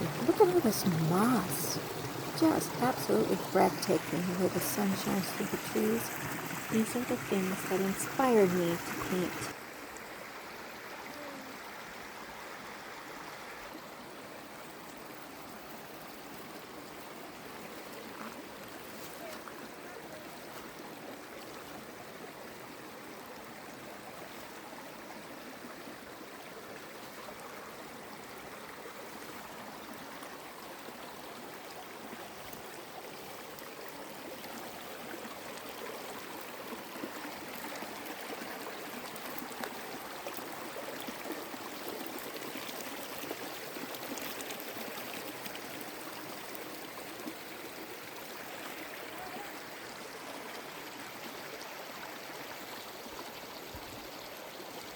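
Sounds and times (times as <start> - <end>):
creek splashing over rocks: 0.0 - 54.9.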